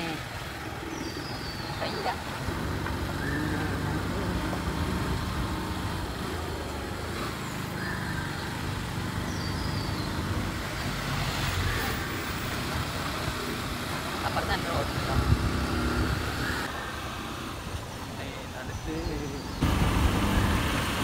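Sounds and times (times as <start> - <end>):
road ambience rumble and hiss: 0.0 - 21.0.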